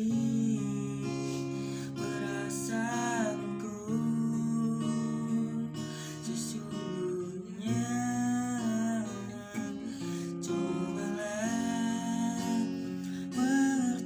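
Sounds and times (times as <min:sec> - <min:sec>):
acoustic guitar chords: 0:00.0 - 0:14.0
person singing a slow ballad: 0:00.0 - 0:14.0.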